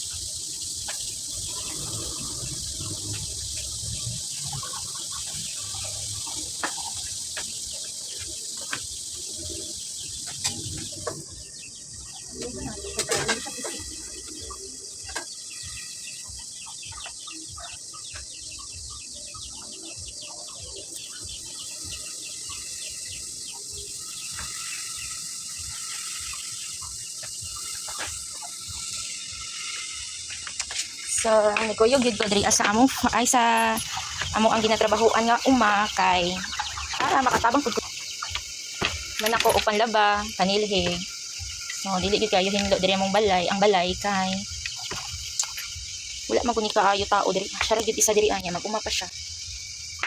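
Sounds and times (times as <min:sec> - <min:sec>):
bird calls: 0:00.0 - 0:50.0
high-pitched insect chorus: 0:00.0 - 0:50.0.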